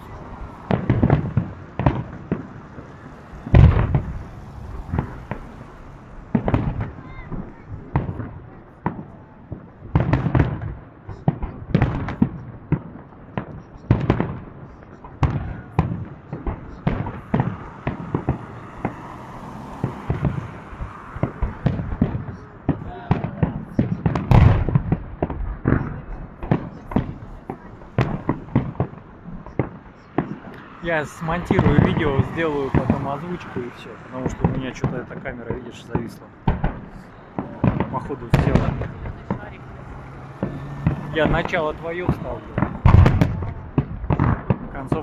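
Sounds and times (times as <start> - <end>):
fireworks booming: 0.0 - 45.0.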